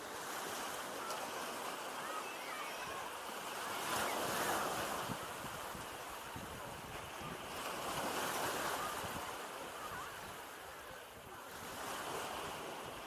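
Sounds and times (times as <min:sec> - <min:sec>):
small sea waves breaking: 0:00.0 - 0:13.0.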